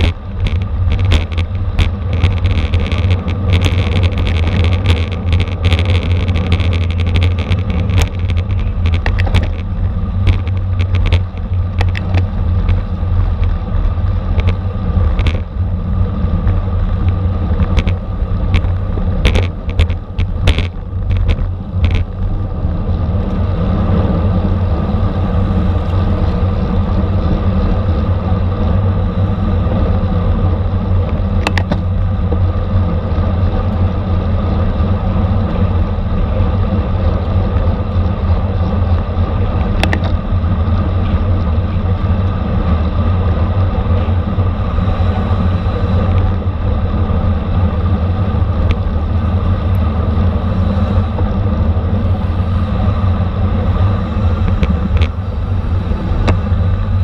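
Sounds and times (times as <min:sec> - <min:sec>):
bicycle road noise: 0:00.0 - 0:57.0
wind rush: 0:00.0 - 0:57.0.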